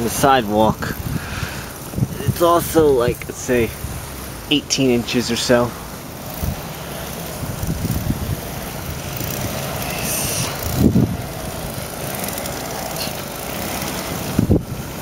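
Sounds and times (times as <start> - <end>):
outdoor rushing noise: 0.0 - 15.0.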